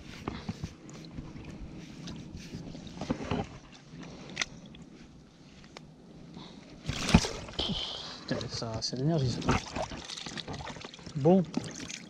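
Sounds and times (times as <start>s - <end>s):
water sloshing and splashing: 0.0s - 5.1s, 6.8s - 12.0s.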